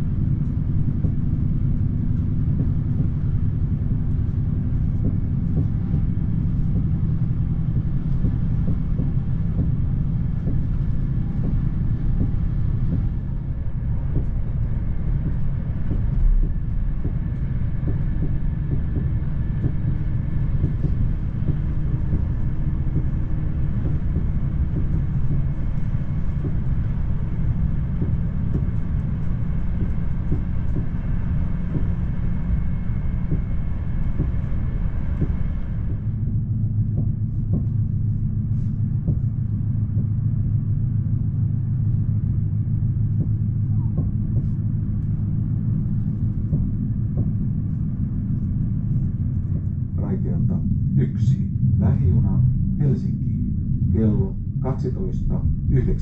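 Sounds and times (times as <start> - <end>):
deep heavy hum: 0.0 - 56.0
train interior rumble: 0.0 - 56.0.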